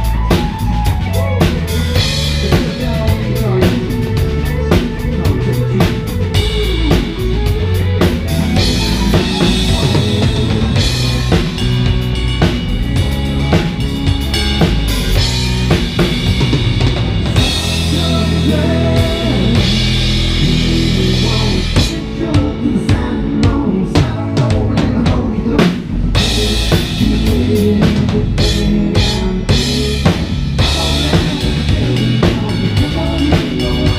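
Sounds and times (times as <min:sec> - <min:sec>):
drum kit hits: 0:00.0 - 0:33.9
live band playing: 0:00.0 - 0:33.9.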